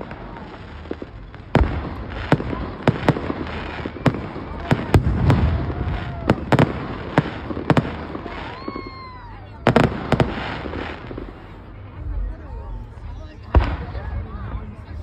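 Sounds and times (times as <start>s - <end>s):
fireworks bangs: 0.0s - 12.2s, 13.0s - 15.0s.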